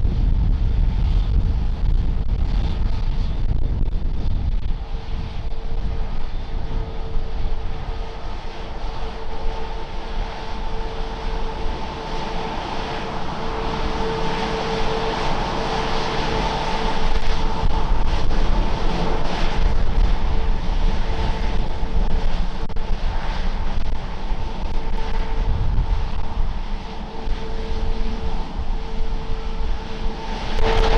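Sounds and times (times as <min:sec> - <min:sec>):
jet engines whining and rumbling: 0:00.0 - 0:30.9.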